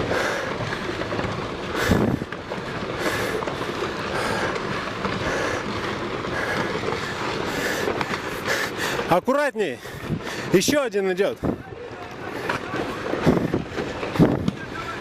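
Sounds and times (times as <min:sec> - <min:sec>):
rocks cracking and clattering: 0:00.0 - 0:15.0
rumble of tumbling rocks: 0:00.0 - 0:15.0.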